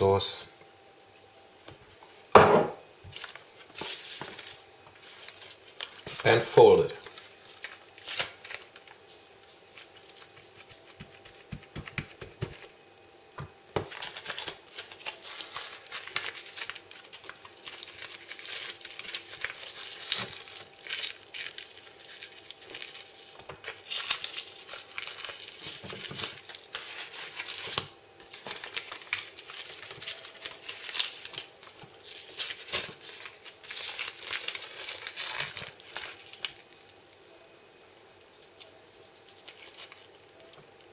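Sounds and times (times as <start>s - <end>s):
nori sheet crinkling: 3.1s - 11.4s, 13.9s - 37.2s, 38.4s - 40.9s.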